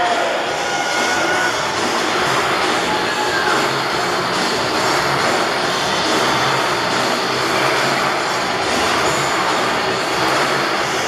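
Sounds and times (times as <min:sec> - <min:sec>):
dirt bike engines running: 0:00.0 - 0:11.0
music playing: 0:00.0 - 0:11.0.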